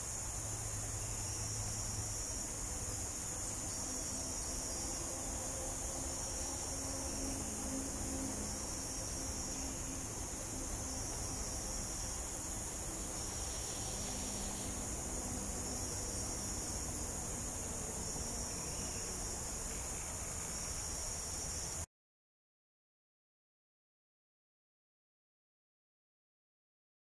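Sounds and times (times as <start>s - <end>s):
insect chorus drone: 0.0s - 21.9s.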